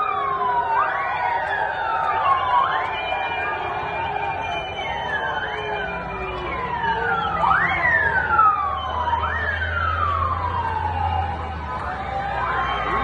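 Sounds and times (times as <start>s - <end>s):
emergency vehicle siren: 0.0s - 13.0s.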